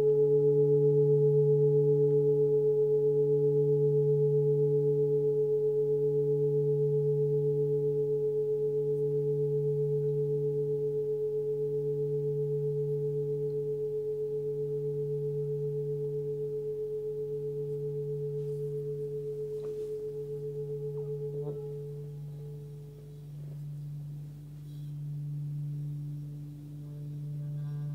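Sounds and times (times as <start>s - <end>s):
singing bowl ringing: 0.0s - 27.9s.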